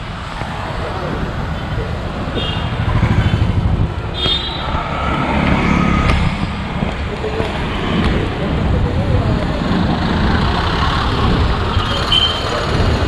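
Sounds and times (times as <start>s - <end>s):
motor vehicles rumbling past: 0.0s - 13.0s.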